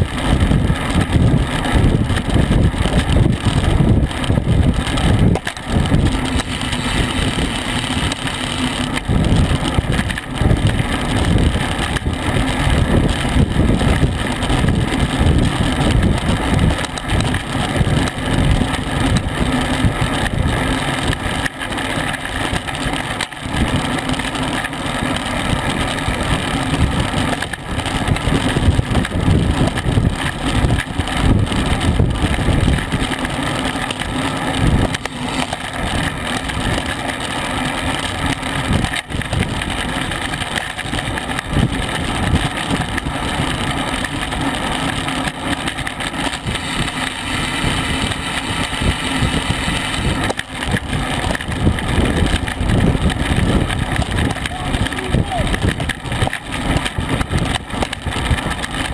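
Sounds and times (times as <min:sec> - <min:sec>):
wind buffeting microphone: 0:00.0 - 0:21.8, 0:25.4 - 0:33.6, 0:34.3 - 0:37.0, 0:37.8 - 0:58.9
road noise: 0:00.0 - 0:58.9.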